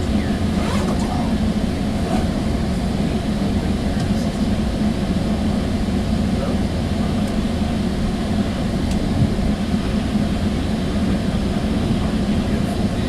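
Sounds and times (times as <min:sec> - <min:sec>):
train coach rumble and hum: 0:00.0 - 0:13.0.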